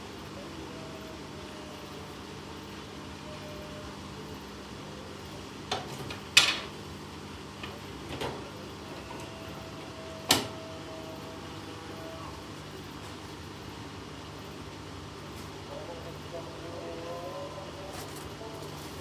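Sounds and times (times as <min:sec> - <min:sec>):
washing machines spinning: 0:00.0 - 0:19.0.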